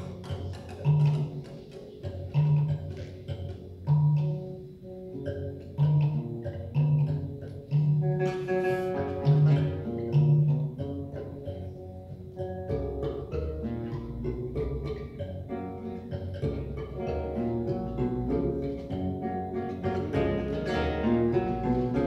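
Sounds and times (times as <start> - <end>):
higher plucked notes: 0.0 - 22.0
low plucked notes: 0.0 - 22.0.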